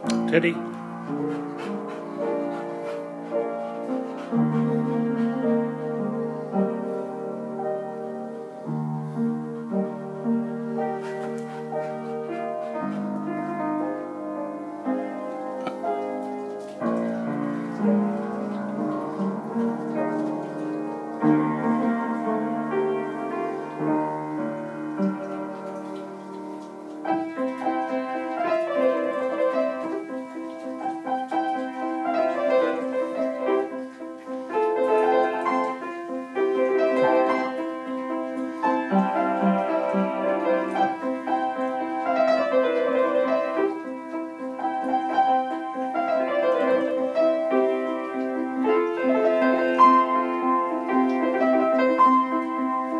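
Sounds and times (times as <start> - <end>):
piano playing: 0.0 - 52.9.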